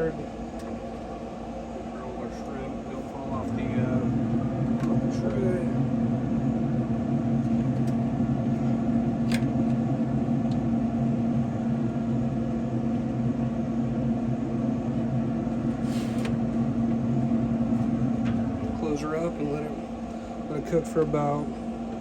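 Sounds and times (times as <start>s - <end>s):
smoker fan humming: 0.0s - 22.0s.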